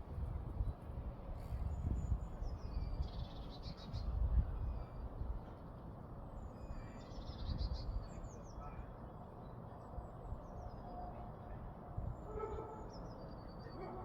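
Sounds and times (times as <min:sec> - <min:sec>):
songbirds chirping: 0:00.5 - 0:14.0.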